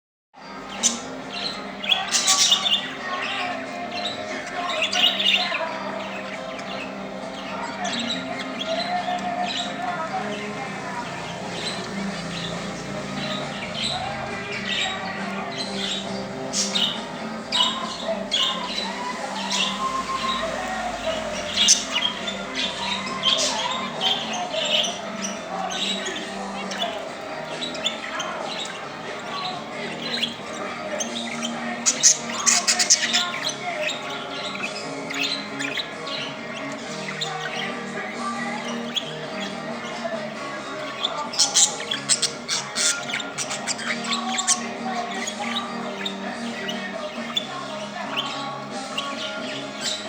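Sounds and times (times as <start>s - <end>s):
budgerigars chirping: 0.4s - 50.0s
budgerigars squawking: 0.4s - 50.0s.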